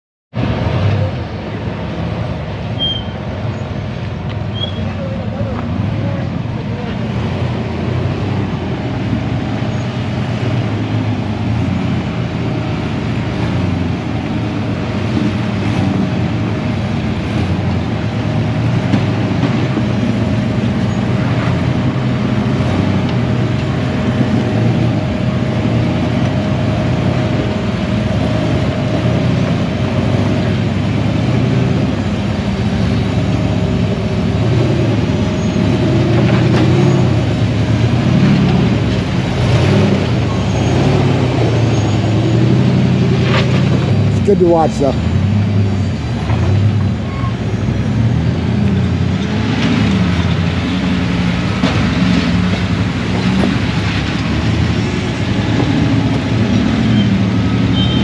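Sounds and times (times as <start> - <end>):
vehicle engine running under load: 0.3 - 58.0.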